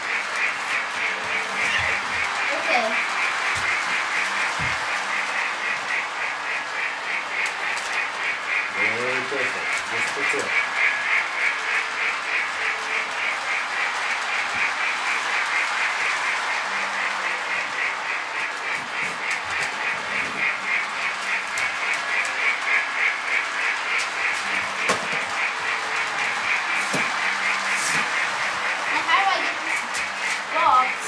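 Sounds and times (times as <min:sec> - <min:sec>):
toy train chattering on track: 0:00.0 - 0:31.0.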